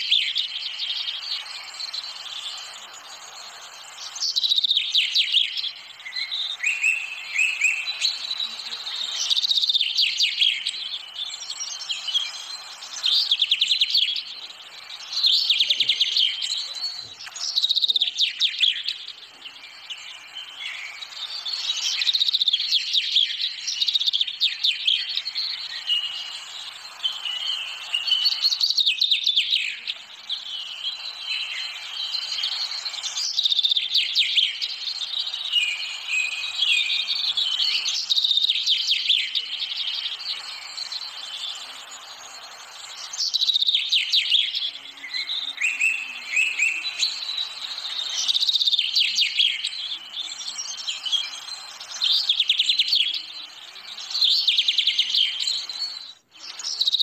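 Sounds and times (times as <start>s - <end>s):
songbirds chirping and trilling: 0.0s - 57.0s
steady hiss: 0.0s - 57.0s.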